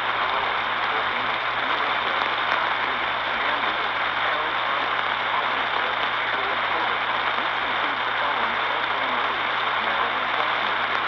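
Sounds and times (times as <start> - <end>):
faint low hum: 0.0 - 11.0
radio static hiss: 0.0 - 11.0.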